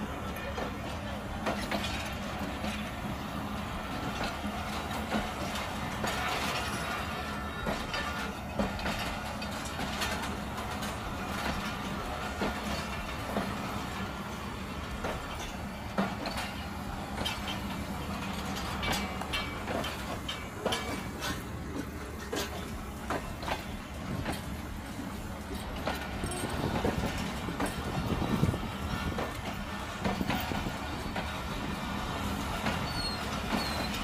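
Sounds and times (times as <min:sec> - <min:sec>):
train wheels clicking over joints: 0:00.0 - 0:34.0.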